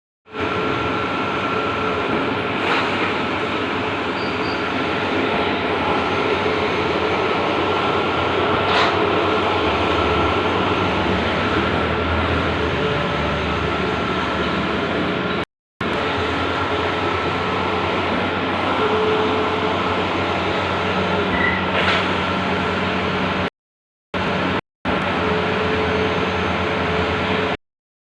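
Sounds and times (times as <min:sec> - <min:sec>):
printer whirring and humming: 0:00.3 - 0:23.5, 0:24.2 - 0:27.6.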